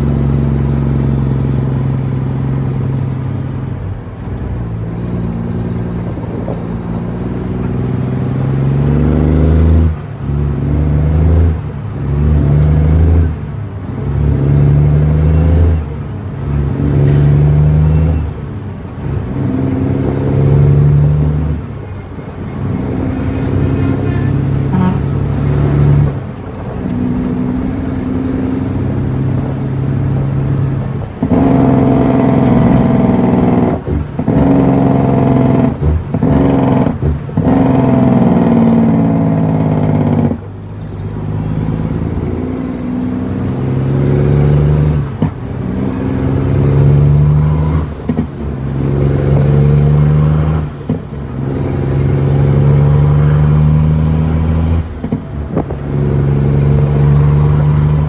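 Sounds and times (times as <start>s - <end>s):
truck diesel engine revving: 0.0s - 58.0s.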